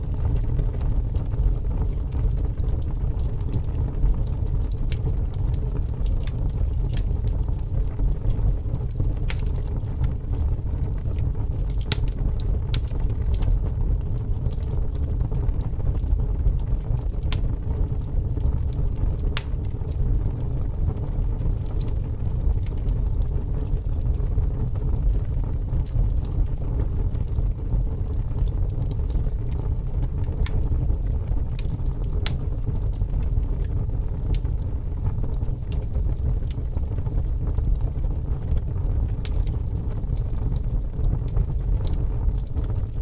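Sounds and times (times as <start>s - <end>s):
fire crackles and pops: 0.0s - 43.0s
wood fire rumbling: 0.0s - 43.0s.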